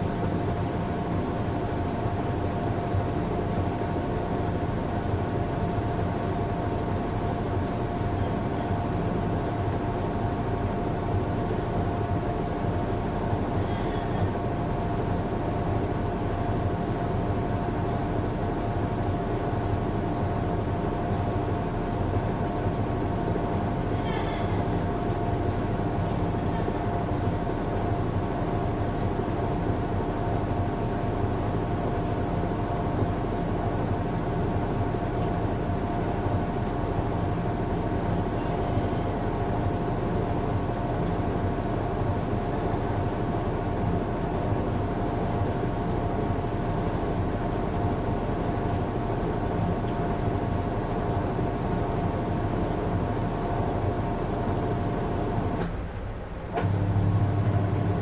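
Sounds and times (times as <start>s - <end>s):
washing machine running: 0.0s - 58.0s.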